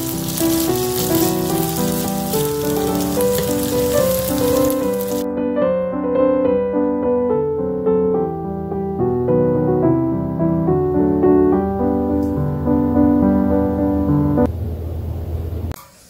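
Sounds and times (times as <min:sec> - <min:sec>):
gentle piano music: 0:00.0 - 0:14.5.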